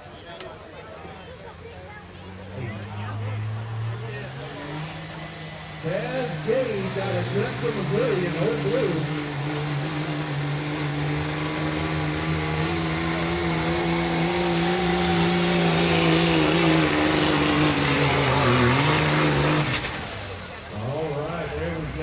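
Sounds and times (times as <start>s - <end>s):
diesel engine at full throttle: 0.0s - 22.0s.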